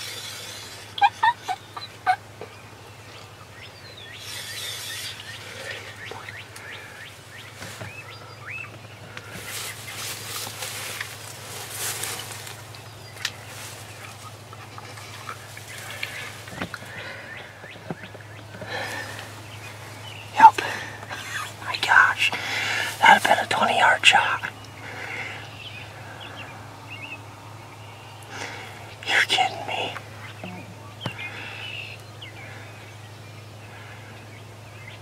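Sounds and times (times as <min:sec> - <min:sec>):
rustling hiss: 0:00.0 - 0:02.2, 0:04.0 - 0:30.4
low steady hum: 0:00.0 - 0:35.0
songbirds chirping: 0:00.0 - 0:35.0.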